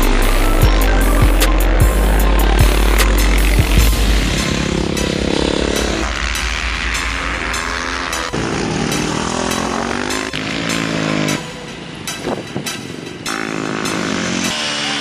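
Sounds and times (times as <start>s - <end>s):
motorcycle engine revving: 0.0s - 15.0s
music with steady beat: 0.0s - 15.0s.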